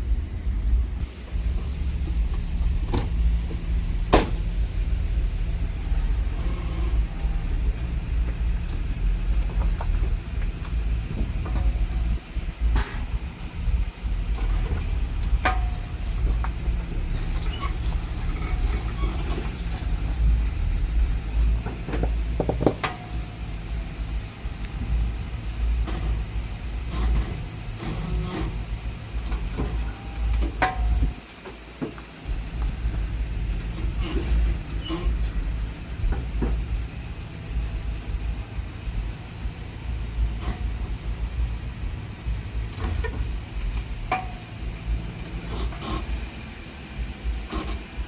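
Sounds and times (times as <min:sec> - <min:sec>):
vehicle engine rumbling: 0:00.0 - 0:48.0.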